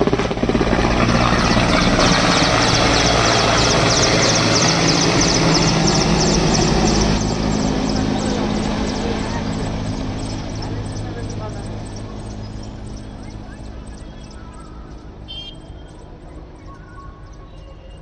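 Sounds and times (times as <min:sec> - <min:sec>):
helicopter turbine and rotor noise: 0:00.0 - 0:18.0.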